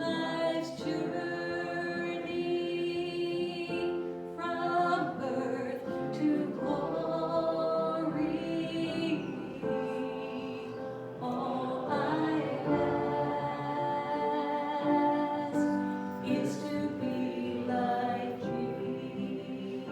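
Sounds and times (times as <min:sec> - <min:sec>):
voices singing together: 0:00.0 - 0:19.9.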